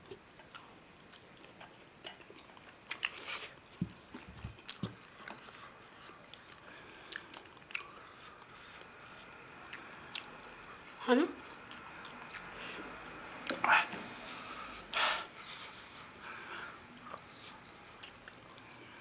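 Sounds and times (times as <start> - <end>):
close chewing and mouth smacks: 0.0 - 13.8, 15.4 - 19.0.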